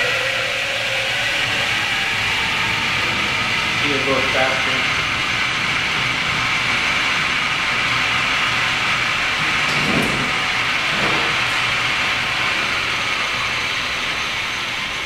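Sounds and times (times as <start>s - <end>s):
metal lathe whirring: 0.0s - 15.0s.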